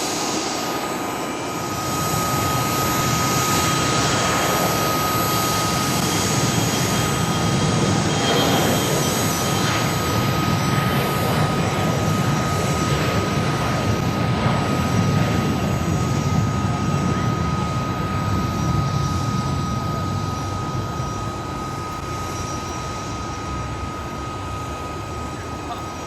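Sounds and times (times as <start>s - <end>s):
jet engines at take-off thrust: 0.0s - 26.0s.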